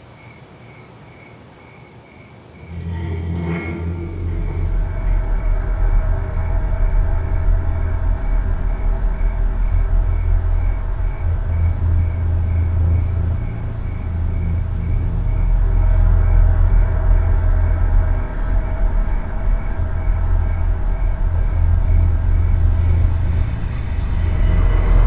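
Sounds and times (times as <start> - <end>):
low rumbling suspense drone: 2.6 - 25.0.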